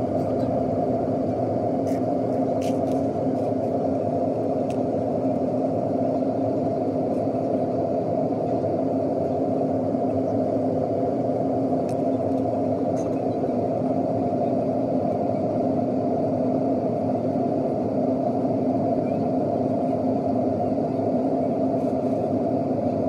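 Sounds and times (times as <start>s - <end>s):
jet airliner cabin rumble: 0.0s - 23.0s
steady hum: 0.0s - 23.0s.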